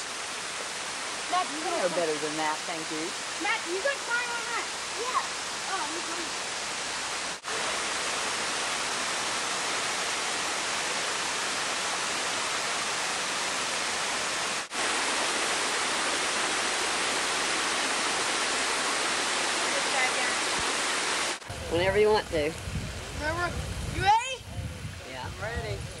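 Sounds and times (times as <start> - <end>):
waterfall over rocks: 0.0 - 24.4.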